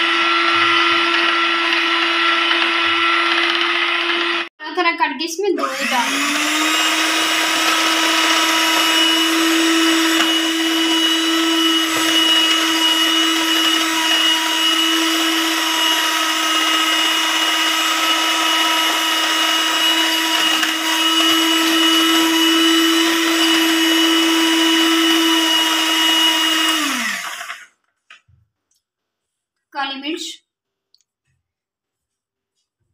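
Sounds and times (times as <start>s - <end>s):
electric hand mixer whining: 0.0s - 4.5s, 5.6s - 27.8s.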